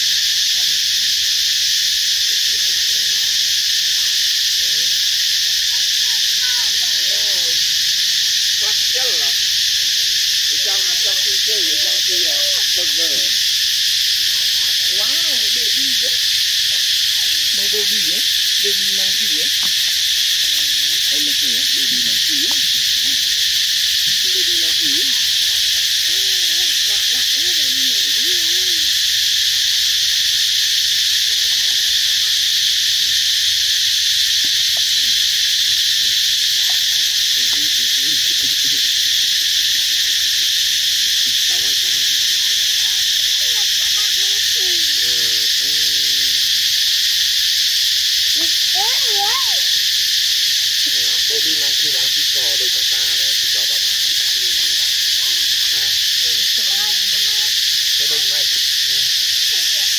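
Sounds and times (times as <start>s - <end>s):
insect chorus buzzing: 0.0s - 59.9s.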